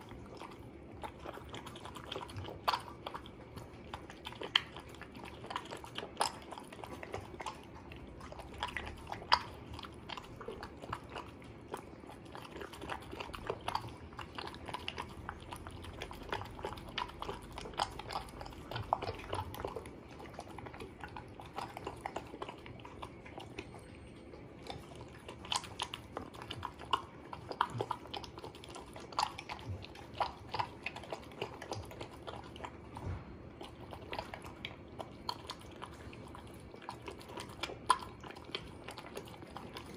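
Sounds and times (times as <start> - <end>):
dog chewing and crunching kibble: 0.0 - 39.9.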